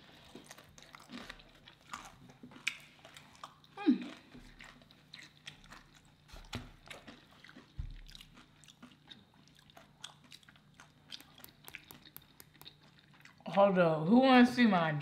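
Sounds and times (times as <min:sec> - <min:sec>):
close-up chewing food: 0:00.0 - 0:13.8.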